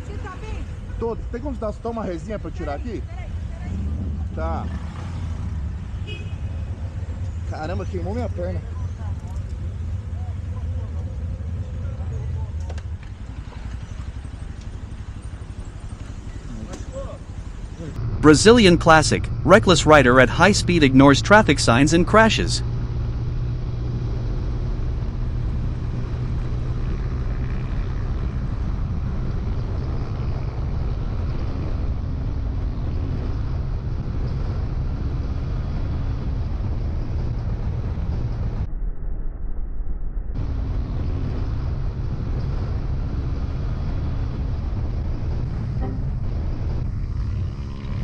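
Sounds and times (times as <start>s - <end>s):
motorcycle engine running: 2.7s - 21.4s, 22.7s - 35.2s, 40.4s - 48.0s.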